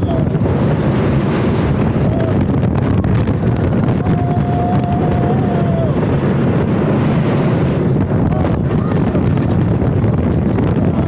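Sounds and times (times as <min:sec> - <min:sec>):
roller coaster train rumbling: 0:00.0 - 0:11.0
wind buffeting microphone: 0:00.0 - 0:11.0.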